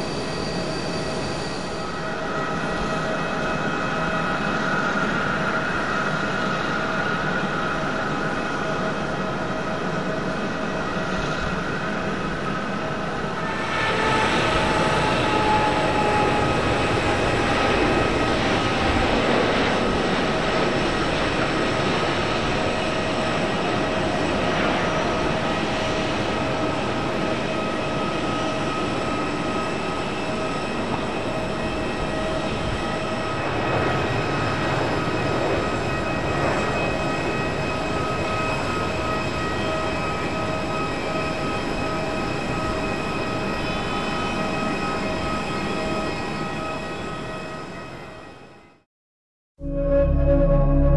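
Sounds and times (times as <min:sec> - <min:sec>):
jet engines roaring: 0:00.0 - 0:47.7.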